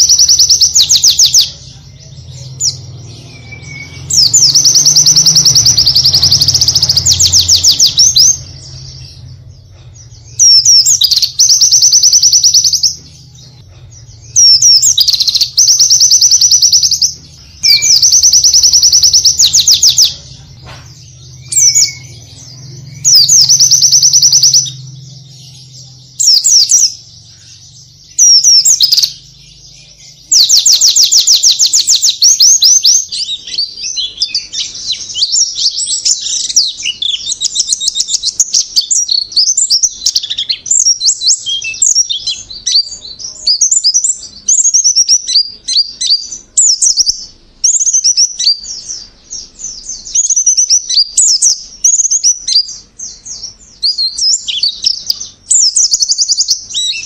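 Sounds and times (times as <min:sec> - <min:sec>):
bird twittering and trilling: 0:00.0 - 0:57.0.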